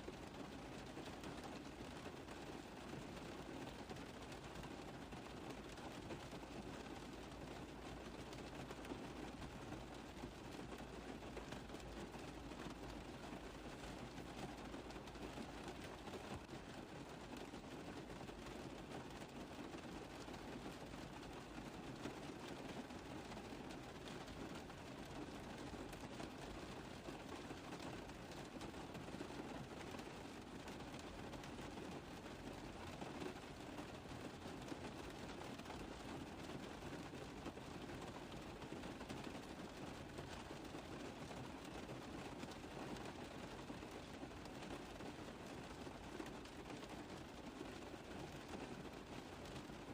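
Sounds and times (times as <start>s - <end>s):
rain on a car roof: 0.0s - 49.9s.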